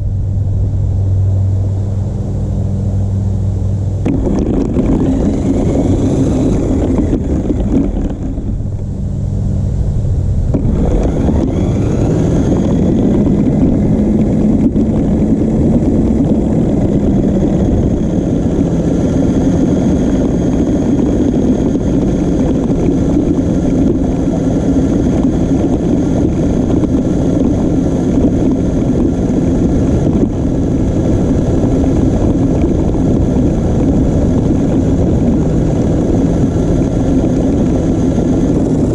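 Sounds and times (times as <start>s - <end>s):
rumbling of running gear: 3.9s - 9.0s, 9.7s - 38.9s.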